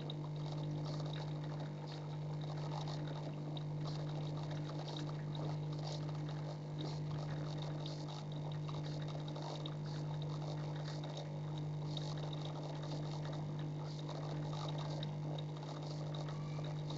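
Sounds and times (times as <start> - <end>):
fish tank equipment humming: 0.0 - 16.9
small irregular crackles: 0.0 - 16.9
water bubbling and trickling: 0.2 - 16.9.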